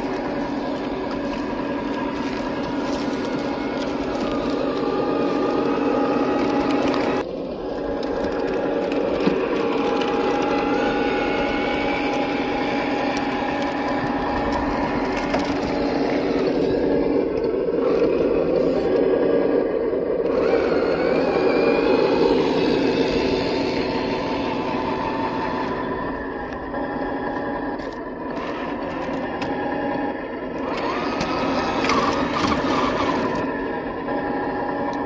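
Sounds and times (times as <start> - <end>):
twigs crackling under tyres: 0.0 - 19.1, 20.3 - 29.7, 30.6 - 33.5
simulated truck engine sound: 0.0 - 35.0.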